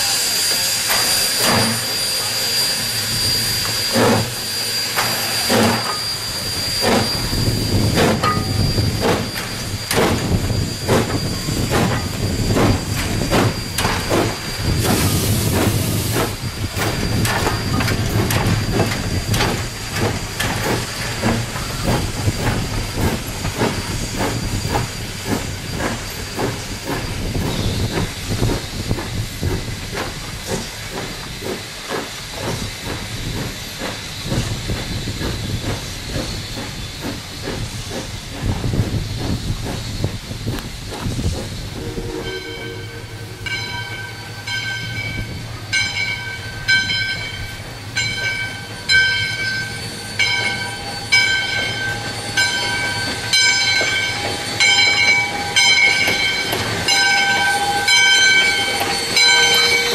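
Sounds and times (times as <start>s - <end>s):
hiss of steam: 0.0s - 59.9s
steam locomotive chuffing: 0.0s - 59.9s.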